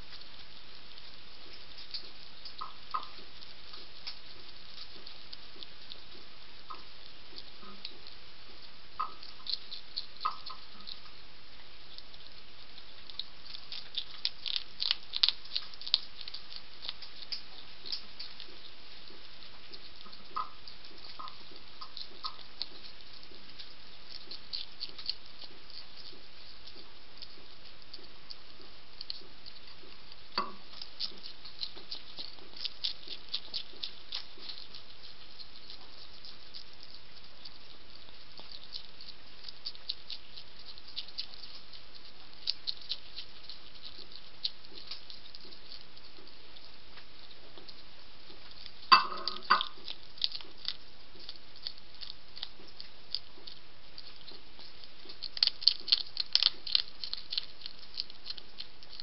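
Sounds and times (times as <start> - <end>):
hedgehog crunching dry food: 0.0 - 59.0.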